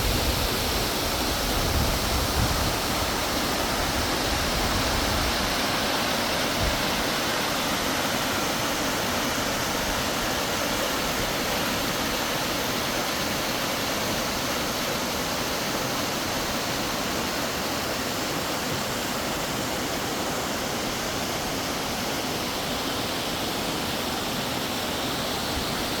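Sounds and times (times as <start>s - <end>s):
waterfall pouring into pool: 0.0s - 26.0s.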